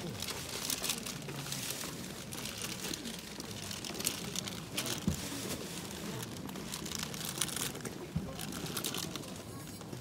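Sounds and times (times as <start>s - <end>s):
rustling and crackling handling: 0.0s - 9.5s.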